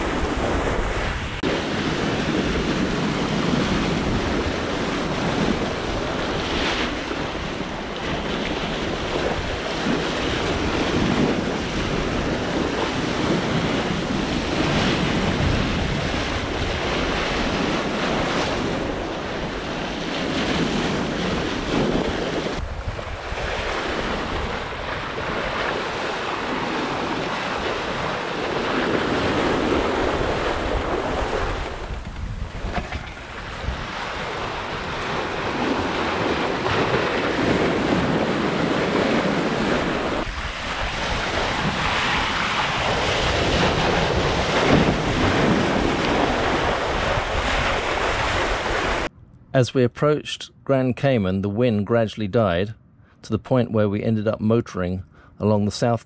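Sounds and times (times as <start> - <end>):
sea water rushing: 0.0 - 49.1
wind buffeting the microphone: 0.0 - 49.4.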